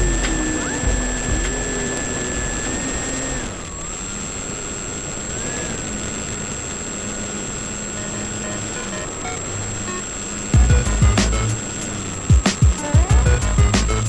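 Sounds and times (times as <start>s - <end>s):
electric motor and propeller whine: 0.0s - 14.0s.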